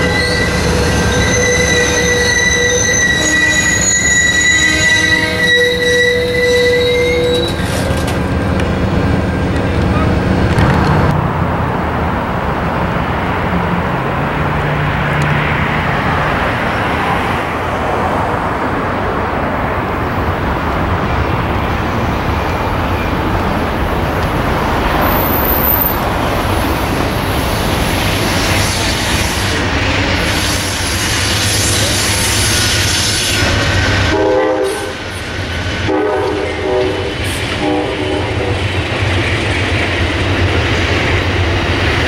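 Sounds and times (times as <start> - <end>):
diesel locomotive rumbling: 0.0 - 42.0.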